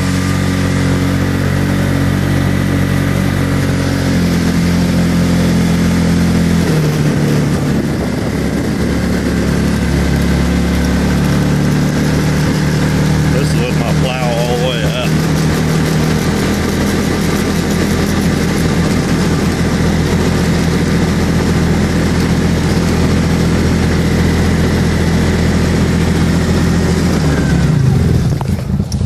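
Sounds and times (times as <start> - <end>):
snowmobile engine running: 0.0 - 29.0.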